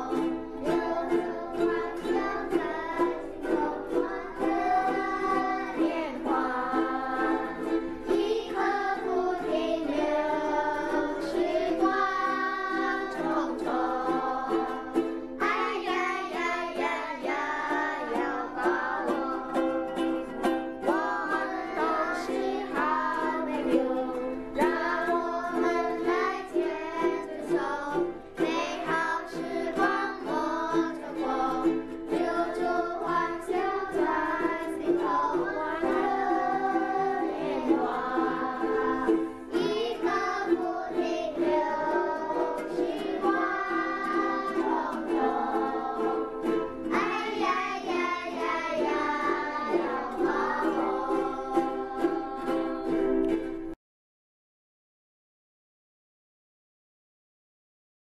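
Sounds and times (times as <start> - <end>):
children singing: 0.0 - 53.7
ukuleles strumming: 0.0 - 53.8.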